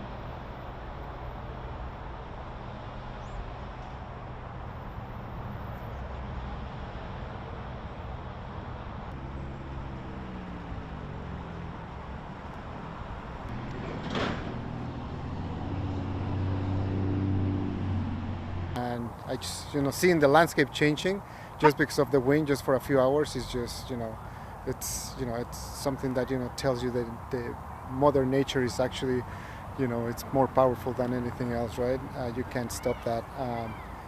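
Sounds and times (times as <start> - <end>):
engine hum: 0.0 - 34.0
rush of traffic noise: 0.0 - 34.0
vehicle passing: 4.6 - 34.0.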